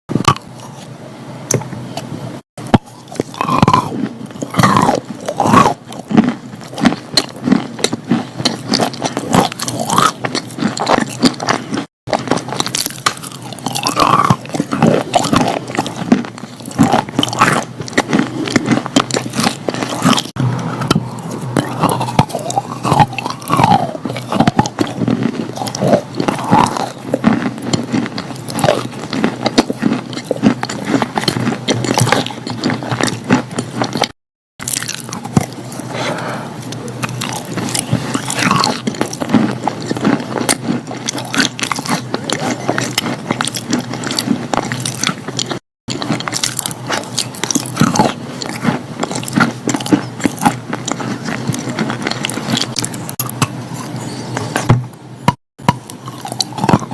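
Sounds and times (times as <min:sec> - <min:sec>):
chalk being chewed: 0:02.7 - 0:54.7, 0:55.7 - 0:56.9.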